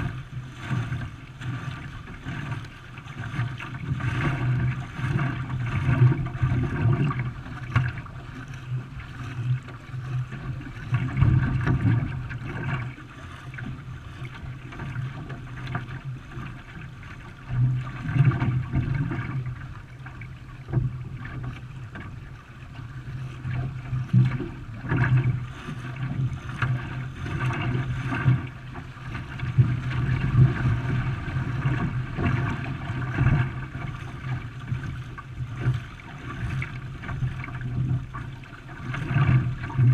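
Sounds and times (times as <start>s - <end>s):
water splashing around a canoe: 0.0s - 39.9s.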